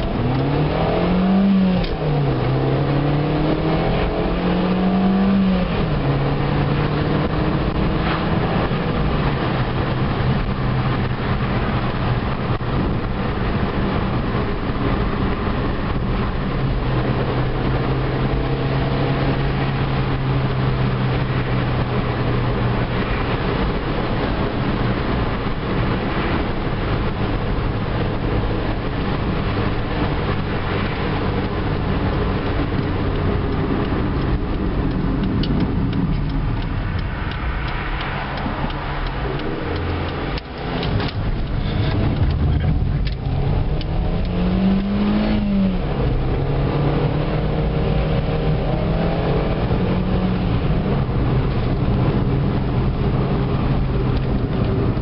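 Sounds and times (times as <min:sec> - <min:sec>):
car engine running: 0:00.0 - 0:55.0
tyre and road noise: 0:00.0 - 0:55.0.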